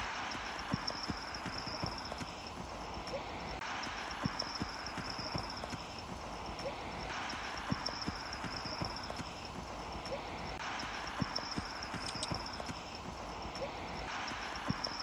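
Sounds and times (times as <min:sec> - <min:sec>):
horse hooves clip-clopping: 0:00.1 - 0:15.0
high jingling: 0:00.4 - 0:15.0.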